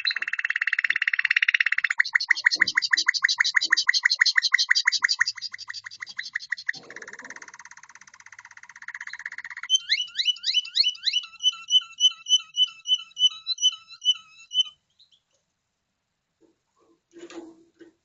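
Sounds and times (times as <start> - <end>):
canary singing: 0.0 - 15.3.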